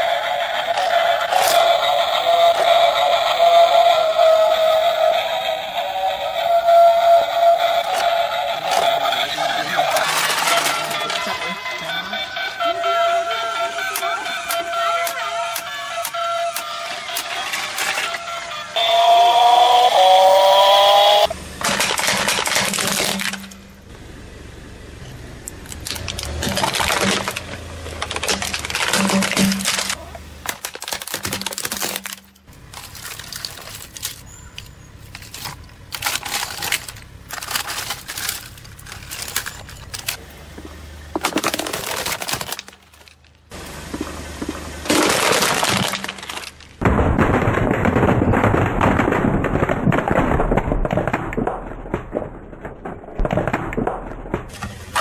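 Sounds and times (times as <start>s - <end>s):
plastic toys crunching under tyre: 0.0s - 12.7s, 13.6s - 18.4s, 21.2s - 23.6s, 25.5s - 55.0s.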